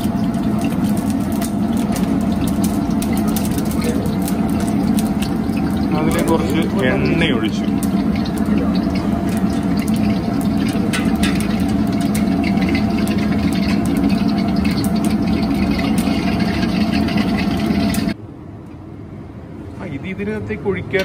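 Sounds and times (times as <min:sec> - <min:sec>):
hot fat crackling: 0:00.0 - 0:18.2
gas burner roaring: 0:00.0 - 0:21.0.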